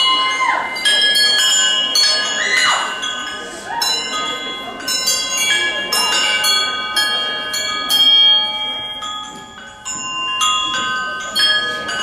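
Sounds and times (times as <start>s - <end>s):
dance music with bell-like chimes: 0.0s - 12.0s.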